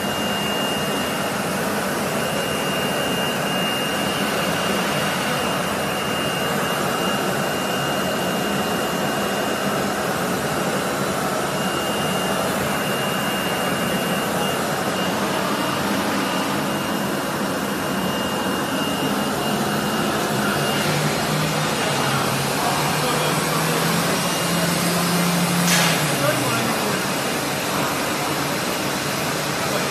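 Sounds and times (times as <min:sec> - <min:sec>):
vacuum pump rushing air: 0:00.0 - 0:29.7.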